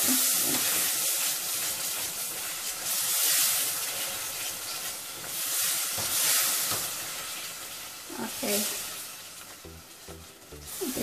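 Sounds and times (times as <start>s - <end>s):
sauce sizzling in saucepan: 0.0s - 11.0s.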